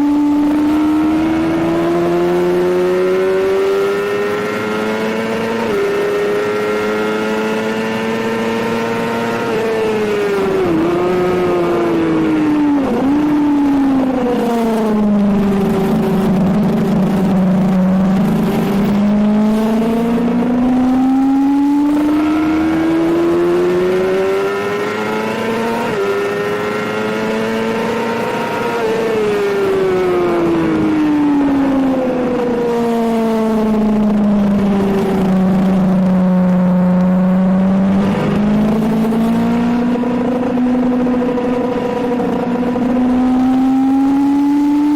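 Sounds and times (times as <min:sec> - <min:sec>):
motorcycle engine at speed: 0:00.0 - 0:44.9
wind noise: 0:00.0 - 0:44.9.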